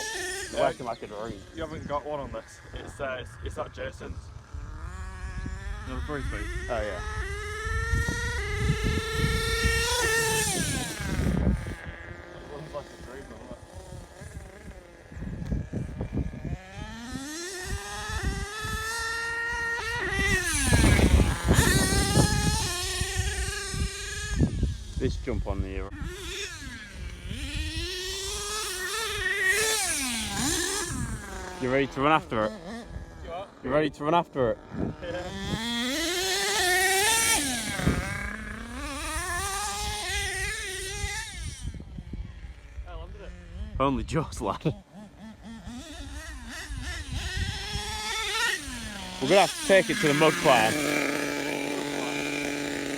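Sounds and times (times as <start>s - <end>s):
small nitro engine revving: 0.0s - 52.9s.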